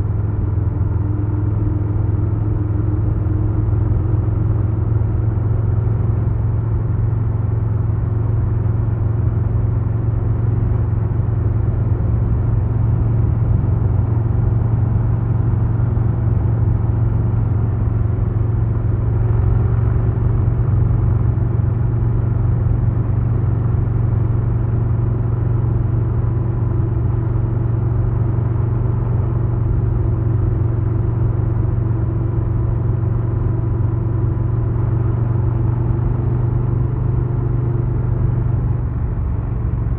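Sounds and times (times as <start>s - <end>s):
motorcycle engine rumbling steadily: 0.0s - 39.9s.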